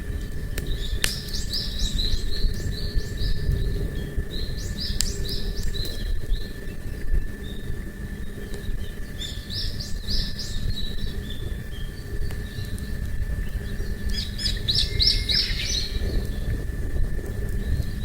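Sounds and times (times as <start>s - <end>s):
low outdoor rumble: 0.0s - 18.0s
small bird singing: 0.5s - 16.6s.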